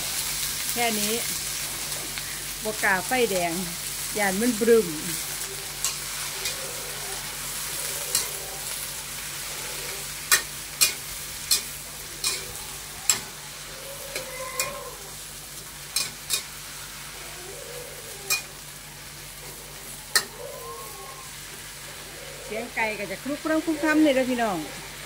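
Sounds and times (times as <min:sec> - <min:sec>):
vegetables sizzling in oil: 0:00.0 - 0:25.0
spatula scraping wok: 0:01.0 - 0:25.0.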